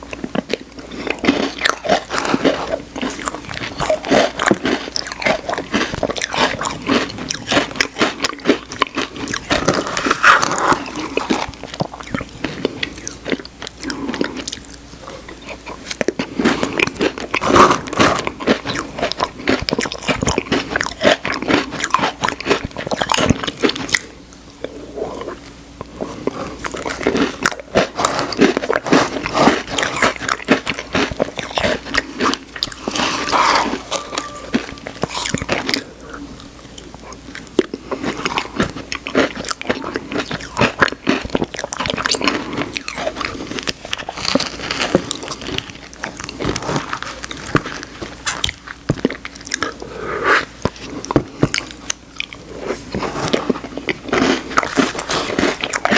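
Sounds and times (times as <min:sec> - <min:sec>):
chewing and crunching cookie: 0:00.0 - 0:55.9.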